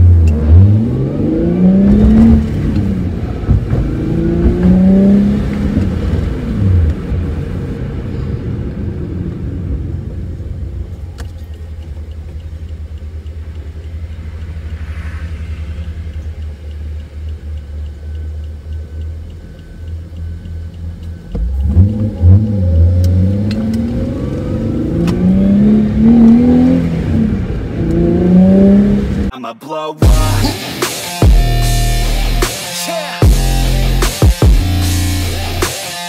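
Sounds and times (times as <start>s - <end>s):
car engine rumbling and revving: 0.0s - 29.3s, 30.0s - 32.5s, 33.2s - 35.7s.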